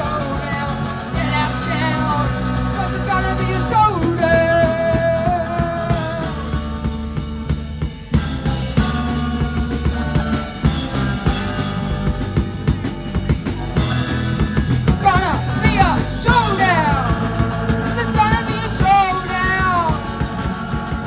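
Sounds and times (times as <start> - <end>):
drum hits: 0.0 - 21.0
live rock band playing: 0.0 - 21.0.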